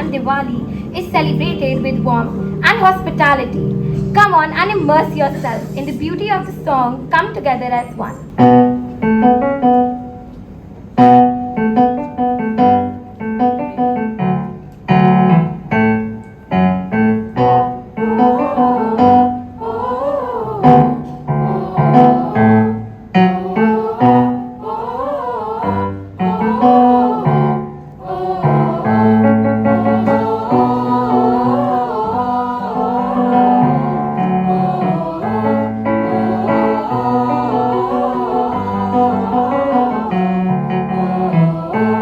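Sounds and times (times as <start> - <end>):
piano chords: 0.0 - 42.0.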